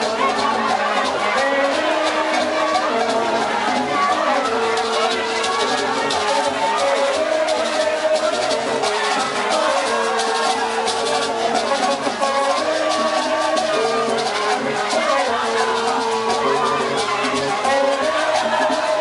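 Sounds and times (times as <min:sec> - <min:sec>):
drums: 0:00.0 - 0:19.0
rattling shakers: 0:00.0 - 0:19.0.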